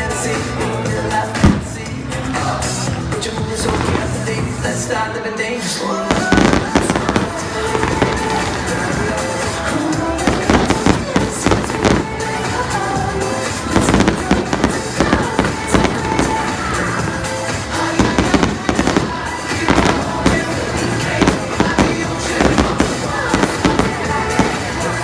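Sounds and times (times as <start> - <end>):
loud music over sound system: 0.0 - 25.0
fireworks bursting and crackling: 1.1 - 5.0, 6.1 - 25.0.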